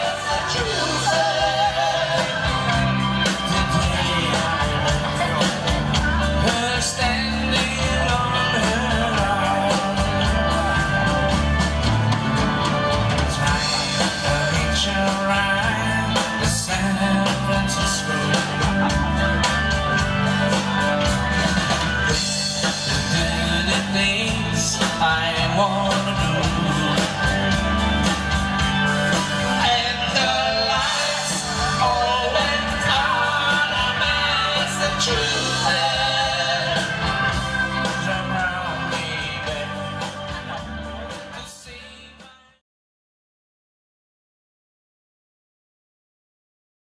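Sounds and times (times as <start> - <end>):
repeating bass line: 0.0 - 42.0
rock and roll song: 0.0 - 42.6.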